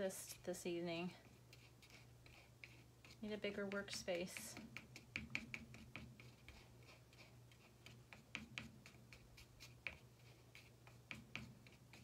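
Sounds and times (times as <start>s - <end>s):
stir stick ticking in paste: 1.2s - 12.0s.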